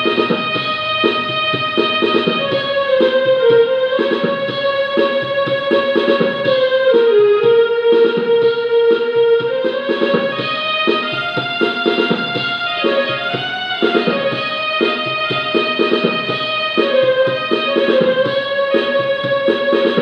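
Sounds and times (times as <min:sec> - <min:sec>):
organ-like keyboard melody: 0:00.0 - 0:20.0
rhythmic keyboard chords: 0:00.0 - 0:20.0.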